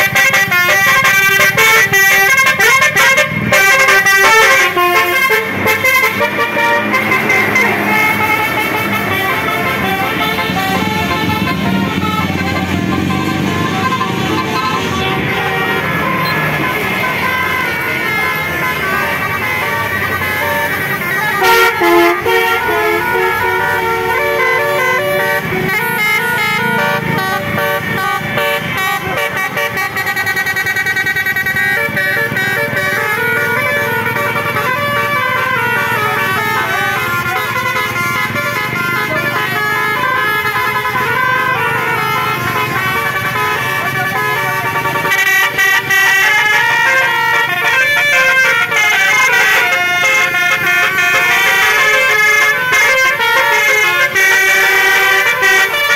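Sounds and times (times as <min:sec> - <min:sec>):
bus air horns playing melodies: 0:00.0 - 0:55.9
engine rumble: 0:00.0 - 0:55.9.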